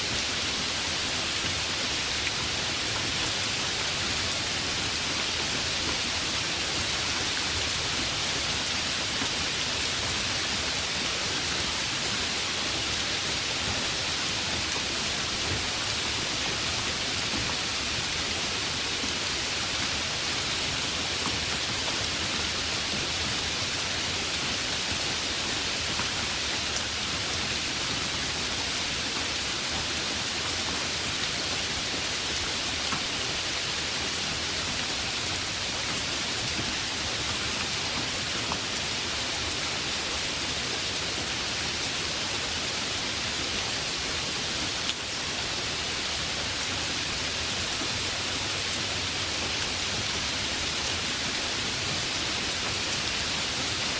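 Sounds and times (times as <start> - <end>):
heavy rain hissing: 0.0 - 53.9.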